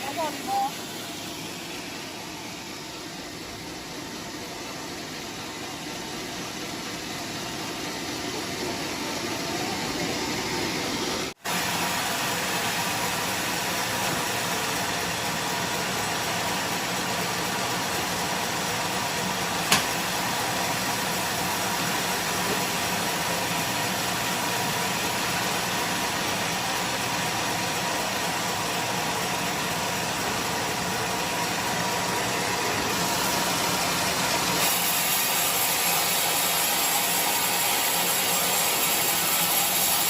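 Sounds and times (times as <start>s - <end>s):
machinery running: 0.0s - 40.0s.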